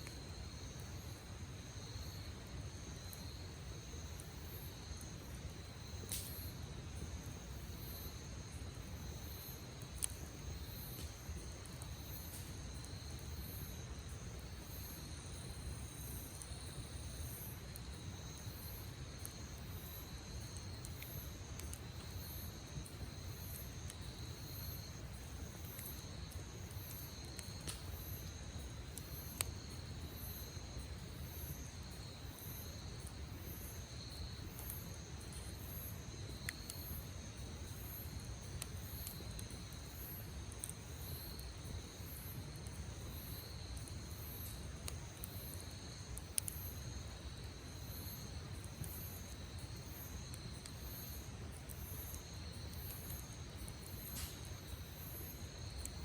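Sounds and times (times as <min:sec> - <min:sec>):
campfire crackling pops: 0:00.0 - 0:56.0
insects chirping: 0:00.0 - 0:56.0.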